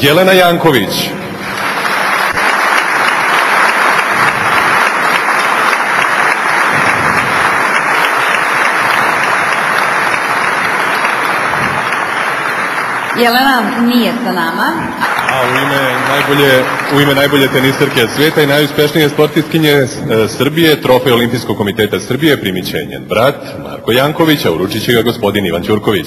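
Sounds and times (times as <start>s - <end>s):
audience applauding: 0.1s - 22.6s.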